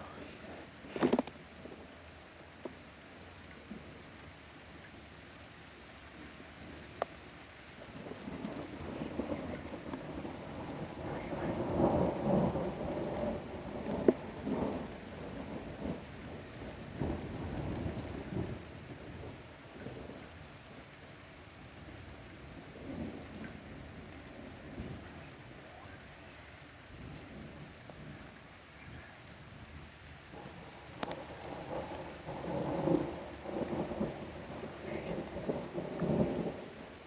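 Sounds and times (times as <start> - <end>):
steady rain: 0.0 - 37.0
thunder rumbling: 6.2 - 37.0.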